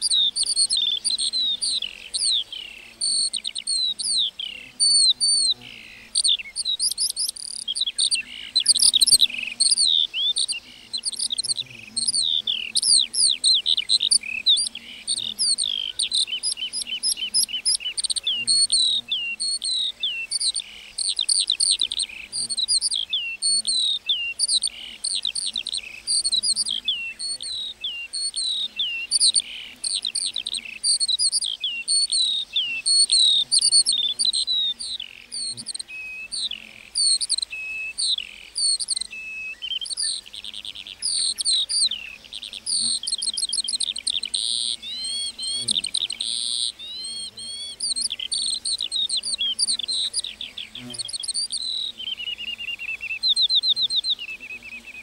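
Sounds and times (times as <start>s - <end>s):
lark singing: 0.0s - 55.0s.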